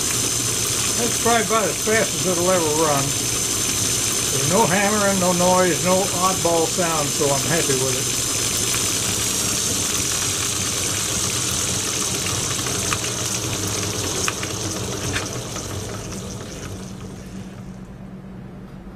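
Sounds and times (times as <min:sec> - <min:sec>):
electric motor humming with hiss: 0:00.0 - 0:17.8.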